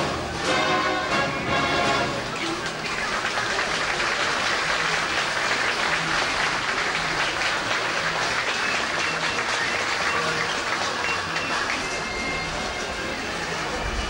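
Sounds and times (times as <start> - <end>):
dense crowd noise: 0.0 - 14.0.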